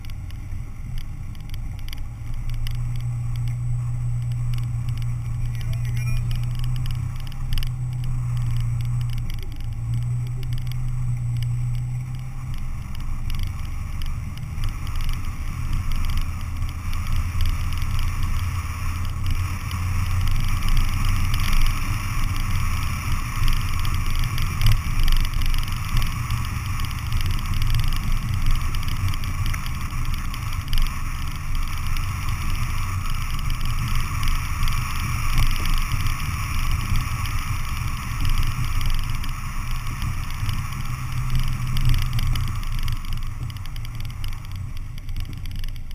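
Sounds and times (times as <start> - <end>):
car engine drone: 0.0 - 45.9
road noise: 0.0 - 45.9.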